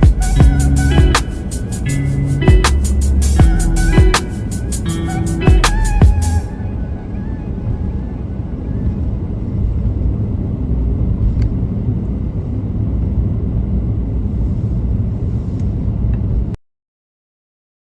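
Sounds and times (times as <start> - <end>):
car interior rumble: 0.0 - 16.6.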